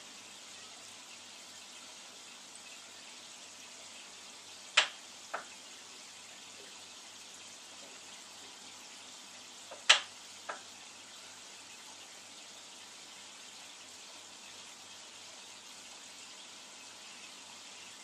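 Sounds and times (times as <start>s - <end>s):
aquarium water circulating: 0.0s - 18.0s.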